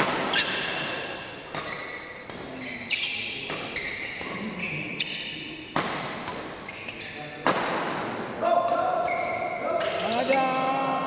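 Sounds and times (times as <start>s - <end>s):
sharp racket hits echoing: 0.0s - 6.7s, 7.4s - 10.2s.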